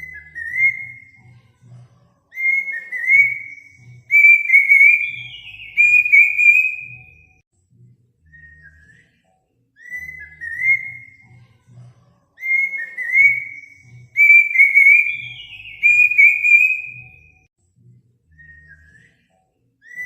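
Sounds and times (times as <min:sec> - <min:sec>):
bird whistling song: 0:00.0 - 0:01.4, 0:02.3 - 0:07.4, 0:08.2 - 0:11.4, 0:12.4 - 0:17.5, 0:18.3 - 0:20.0.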